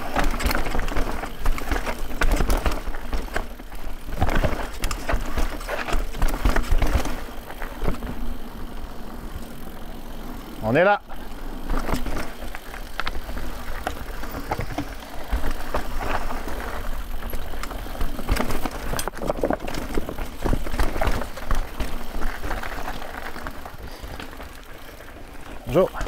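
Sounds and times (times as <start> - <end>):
bike knocks and rattles: 0.0 - 10.4, 11.1 - 26.0
bike tyres rolling on dirt: 0.0 - 26.0.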